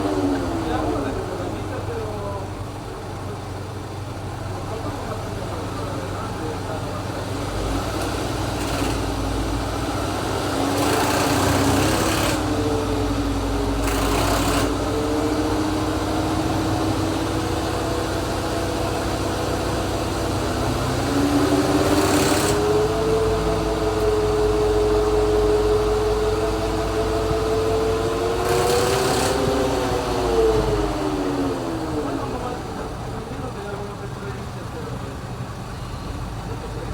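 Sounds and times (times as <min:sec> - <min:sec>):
car engine rumble: 0:00.0 - 0:08.4, 0:12.4 - 0:36.9.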